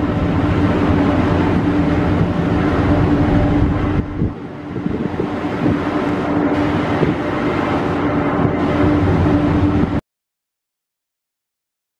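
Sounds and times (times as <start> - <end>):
low ship engine hum: 0.0 - 10.0
wind buffeting microphone: 0.0 - 10.0.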